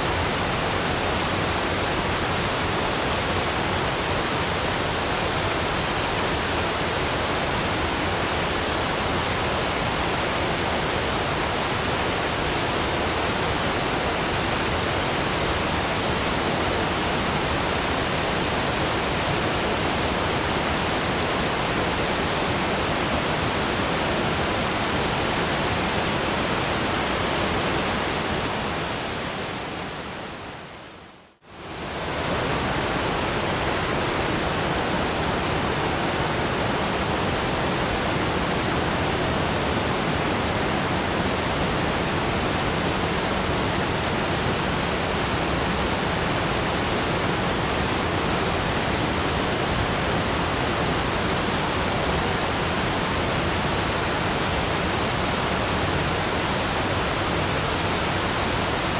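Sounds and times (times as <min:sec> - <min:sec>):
water pouring down waterfalls: 0:00.0 - 0:58.9.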